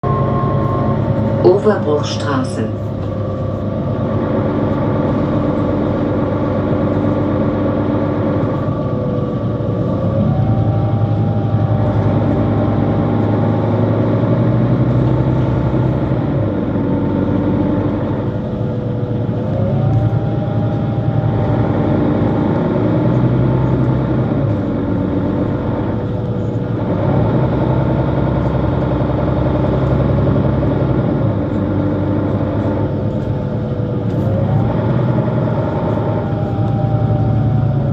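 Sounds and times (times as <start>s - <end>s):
bus diesel engine running: 0.0s - 37.9s
drivetrain whine stepping up: 0.0s - 37.9s.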